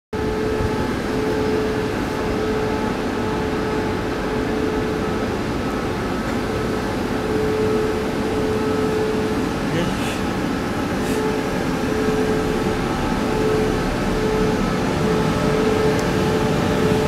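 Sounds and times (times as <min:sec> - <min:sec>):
electric train humming: 0:00.2 - 0:17.0.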